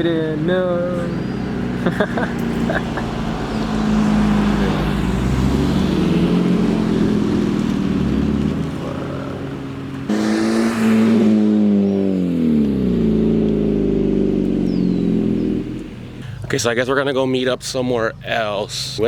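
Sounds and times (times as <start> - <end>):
louder engine: 0.0 - 16.3
car engines running: 0.0 - 19.0.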